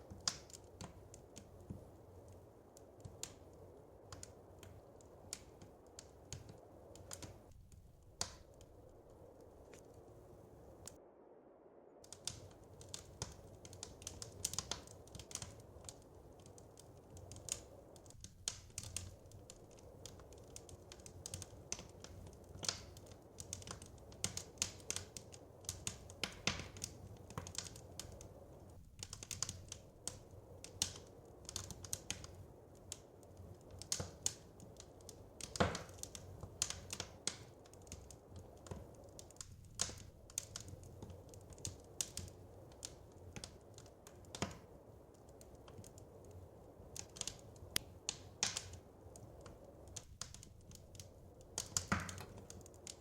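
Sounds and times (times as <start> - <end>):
wood fire crackling: 0.0 - 11.1, 12.0 - 53.0.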